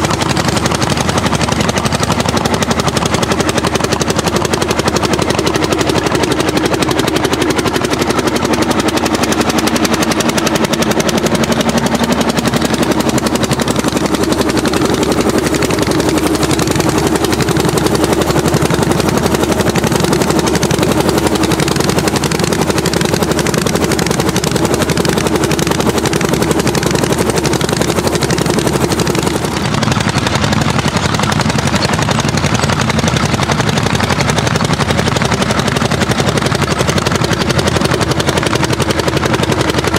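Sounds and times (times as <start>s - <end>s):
tractor engine exhaust beat: 0.0s - 39.9s.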